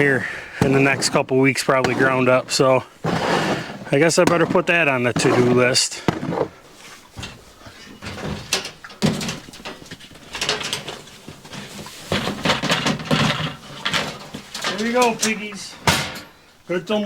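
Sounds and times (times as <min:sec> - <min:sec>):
knocks and rustling of feed: 0:00.0 - 0:16.7.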